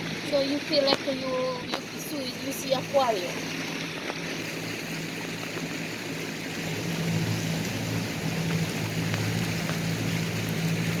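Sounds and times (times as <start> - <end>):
motorboat engine humming: 0.0 - 11.0
hiss of water: 0.8 - 11.0.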